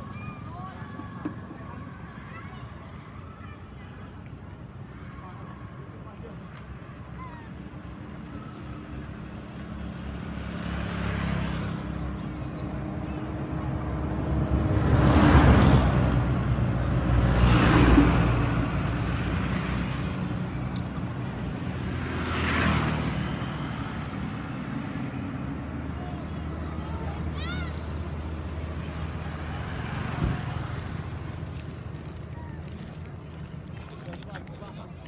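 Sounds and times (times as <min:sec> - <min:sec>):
cars passing on road: 0:00.0 - 0:35.0.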